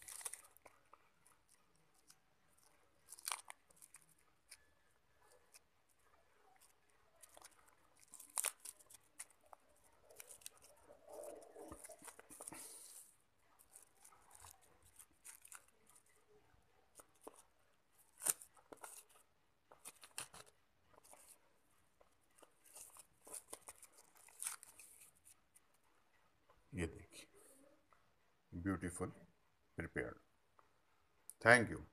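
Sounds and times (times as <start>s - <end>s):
plastic wrap crinkling: 0.0s - 25.8s.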